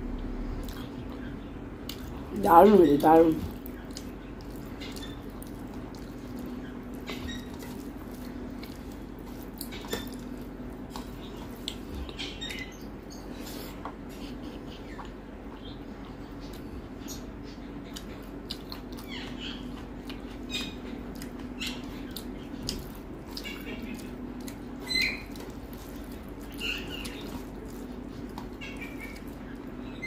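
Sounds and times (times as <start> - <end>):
steady low hum: 0.0 - 30.0
wet chewing and lip smacks: 0.6 - 2.3, 3.4 - 29.8.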